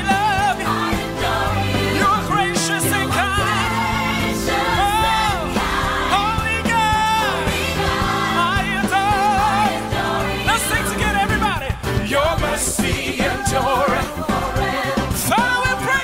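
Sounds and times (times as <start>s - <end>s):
man singing gospel: 0.0s - 1.2s, 1.8s - 16.0s
band accompaniment: 0.0s - 16.0s.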